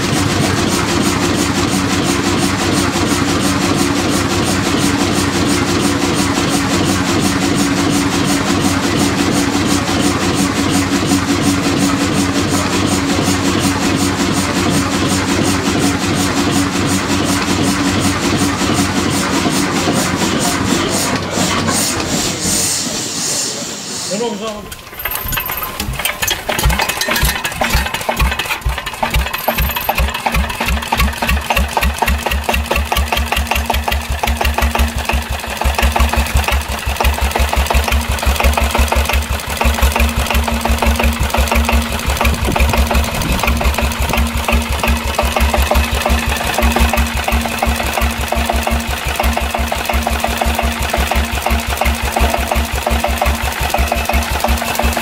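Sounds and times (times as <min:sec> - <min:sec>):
diesel engine idling: 0:00.0 - 0:21.9, 0:24.2 - 0:55.0.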